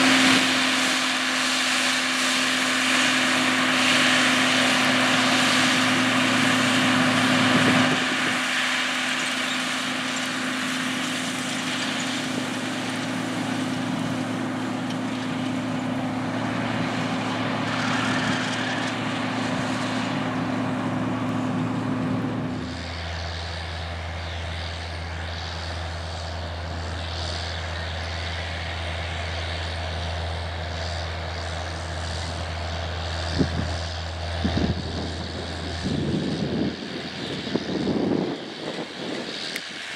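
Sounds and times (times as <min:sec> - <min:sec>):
deeper tractor engine drone: 0:00.0 - 0:39.9
tractor diesel engine drone: 0:00.0 - 0:39.9.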